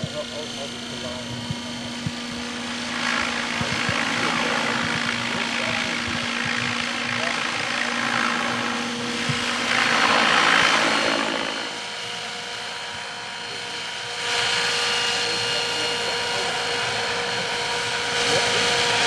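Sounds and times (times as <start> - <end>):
model helicopter rotors whirring: 0.0 - 19.0.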